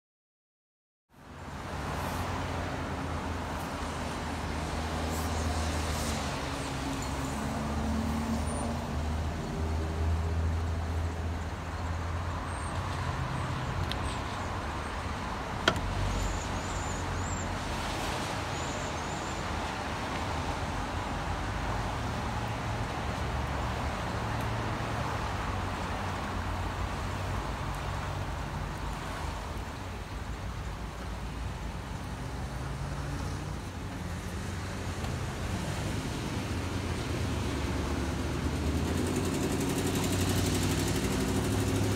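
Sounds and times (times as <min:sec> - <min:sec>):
rain and tyres on wet pavement: 0:01.2 - 0:41.9
vehicles idling and moving: 0:01.2 - 0:41.9.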